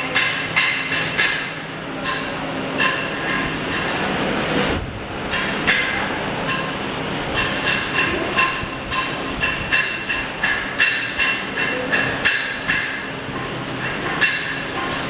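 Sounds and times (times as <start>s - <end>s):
hammer striking steel: 0.0s - 4.1s, 5.3s - 15.0s.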